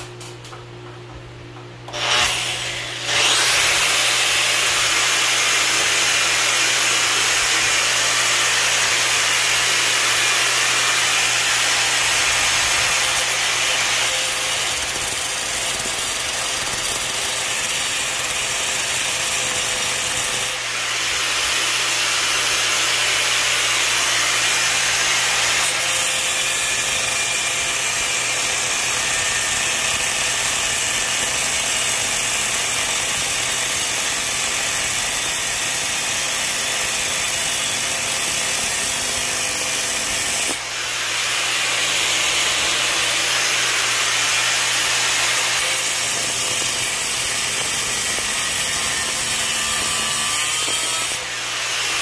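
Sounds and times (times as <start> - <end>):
angle grinder cutting pipe: 1.9 - 52.0.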